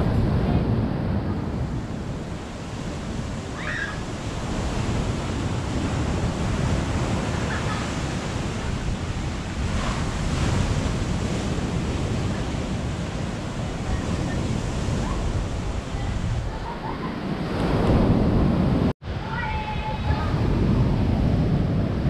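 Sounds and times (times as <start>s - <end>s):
strong wind: 0.0s - 22.0s
surf crashing: 0.0s - 22.0s
wind buffeting microphone: 0.0s - 22.0s.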